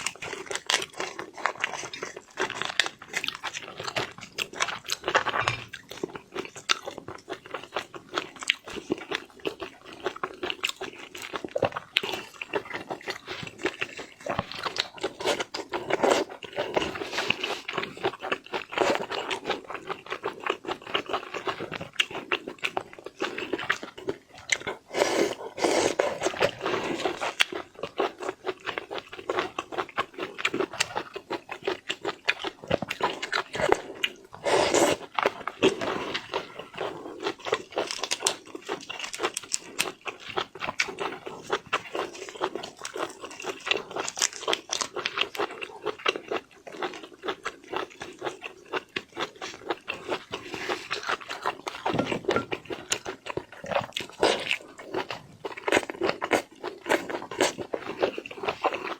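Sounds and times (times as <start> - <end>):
crunching and chewing: 0.0 - 58.9.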